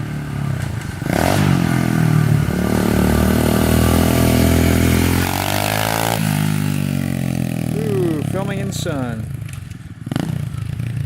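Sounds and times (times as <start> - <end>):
motorbike engine riding past: 0.0 - 11.0.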